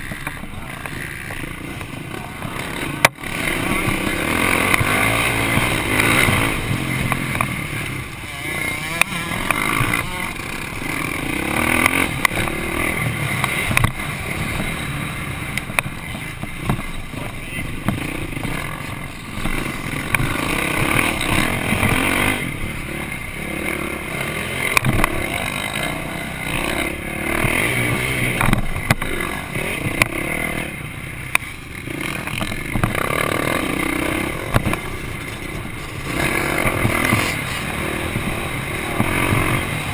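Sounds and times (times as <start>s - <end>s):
motocross bike engine revving: 0.0s - 39.9s
other dirt bikes running: 0.0s - 39.9s.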